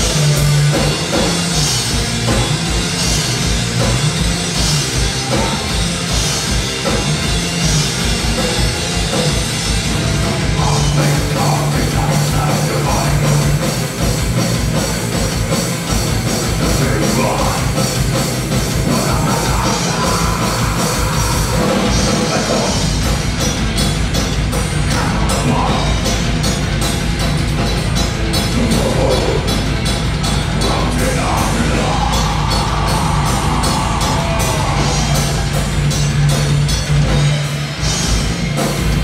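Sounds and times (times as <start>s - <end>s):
fast drumming: 0.0s - 39.0s
metal band playing live: 0.0s - 39.0s.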